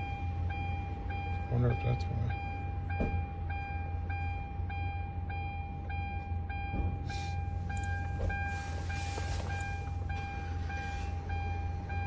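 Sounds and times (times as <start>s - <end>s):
low steady hum: 0.0s - 12.0s
pulsing electronic warning tone: 0.0s - 12.0s.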